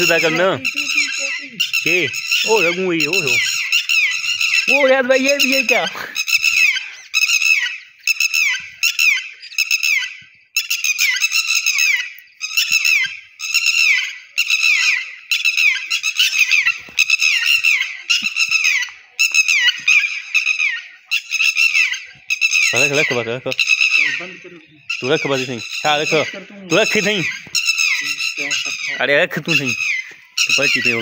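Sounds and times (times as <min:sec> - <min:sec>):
bird squawking harshly: 0:00.0 - 0:31.0.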